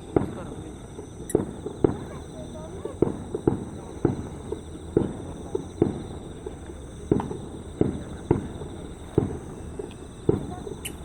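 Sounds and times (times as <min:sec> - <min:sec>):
fireworks booming: 0:00.0 - 0:11.0
small firework pops: 0:00.0 - 0:11.0.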